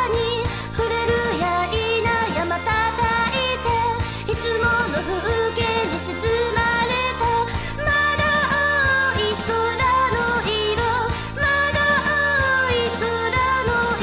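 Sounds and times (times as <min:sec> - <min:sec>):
backing track with steady beat: 0:00.0 - 0:14.0
woman singing pop song: 0:00.0 - 0:14.0.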